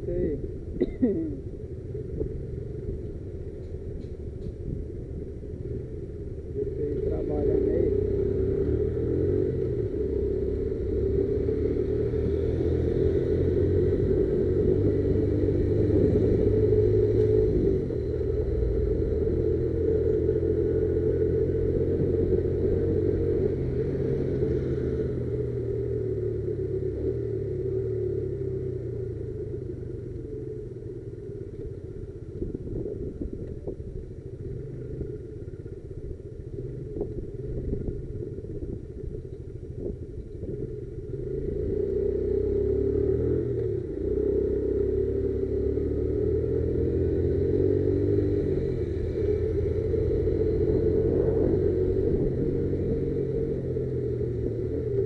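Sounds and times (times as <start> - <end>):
motorcycle engine rumbling: 0.0 - 55.0.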